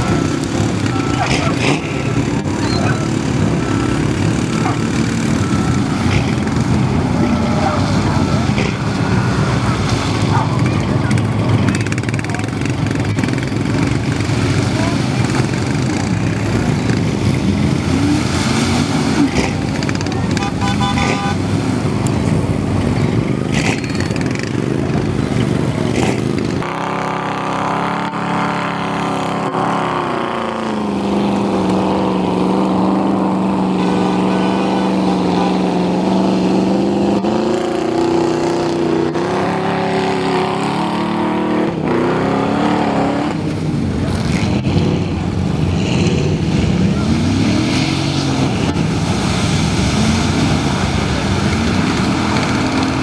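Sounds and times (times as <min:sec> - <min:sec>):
truck engines revving: 0:00.0 - 0:53.0.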